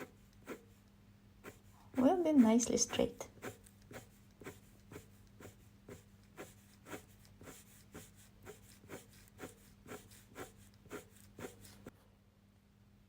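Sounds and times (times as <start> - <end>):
pen scratching on paper: 0.0 - 11.9
faint steady hum: 0.0 - 13.0.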